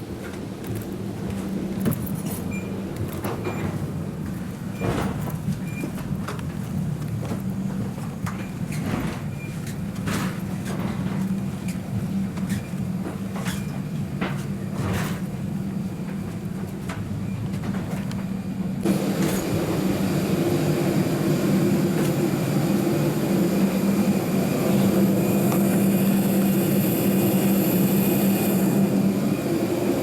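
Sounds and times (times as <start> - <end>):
cabin ventilation drone: 0.0 - 30.0.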